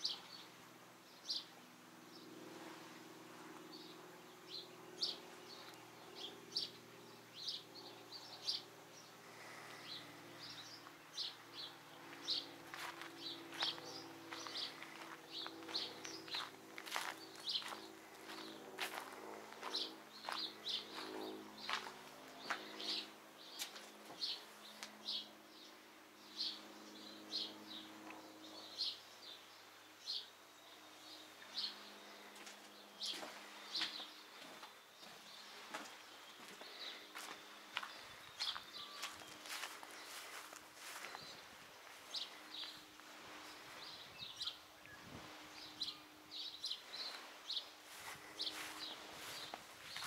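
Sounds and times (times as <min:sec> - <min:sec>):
faint outdoor background noise: 0:00.0 - 0:50.0
bird chirping: 0:03.7 - 0:50.0.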